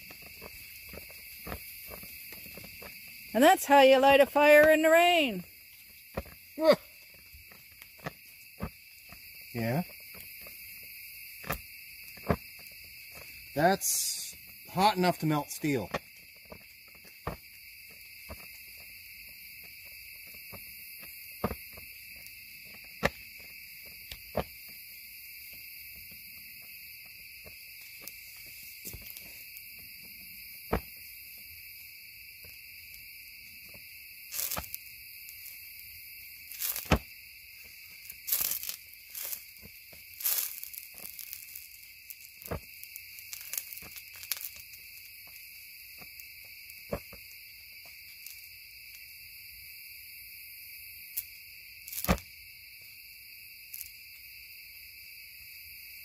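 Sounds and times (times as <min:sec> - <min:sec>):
burning metal crackling and popping: 0:00.0 - 0:49.0, 0:51.2 - 0:52.4
crickets trilling: 0:00.0 - 0:56.0.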